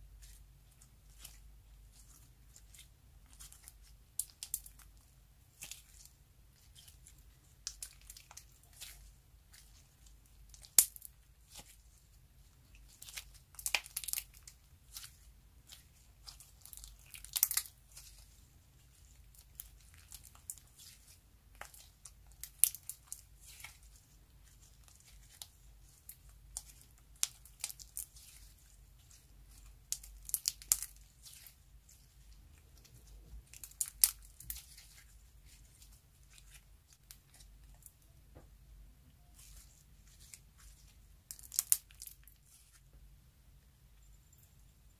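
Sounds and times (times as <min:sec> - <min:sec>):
slime sticky crackles: 0:00.0 - 0:38.1, 0:39.2 - 0:42.9.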